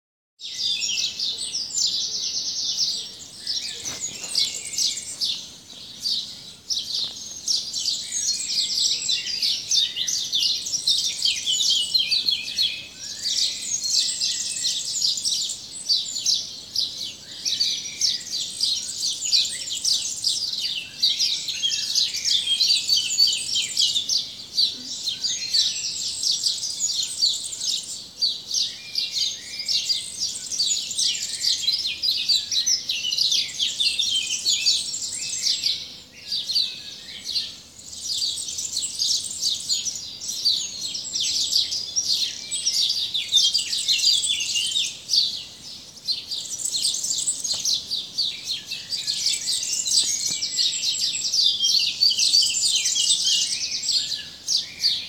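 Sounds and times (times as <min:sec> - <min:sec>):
birds chirping: 0:00.4 - 0:55.0.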